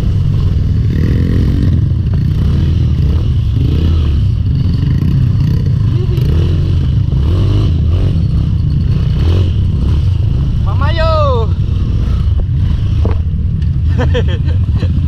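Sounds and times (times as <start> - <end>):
heavy low rumble: 0.0 - 15.0
motorcycle engine revving: 0.0 - 15.0.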